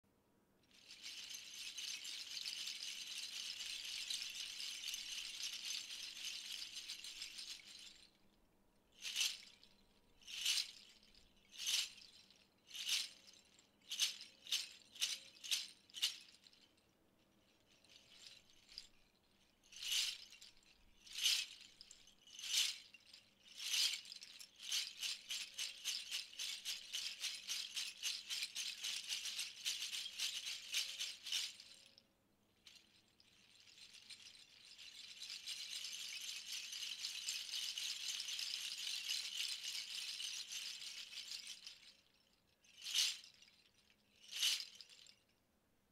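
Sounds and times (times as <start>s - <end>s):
plastic rattle shaking: 0.7s - 8.2s, 9.0s - 16.8s, 17.6s - 32.0s, 32.6s - 45.3s.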